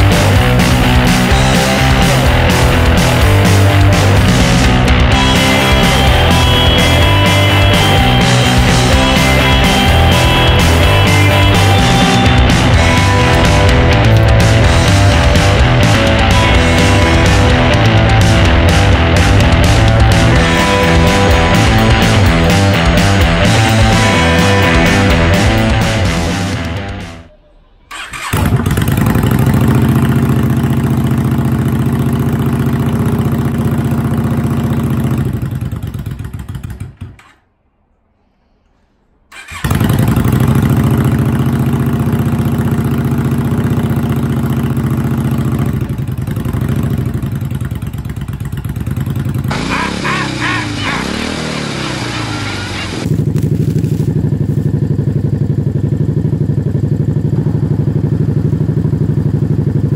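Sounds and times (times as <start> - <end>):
motorcycle engine running: 0.0 - 27.3, 27.9 - 37.4, 39.3 - 59.9.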